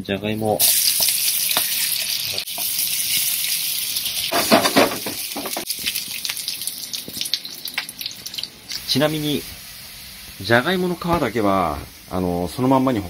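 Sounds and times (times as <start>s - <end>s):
potatoes sizzling in hot oil: 0.6s - 12.8s.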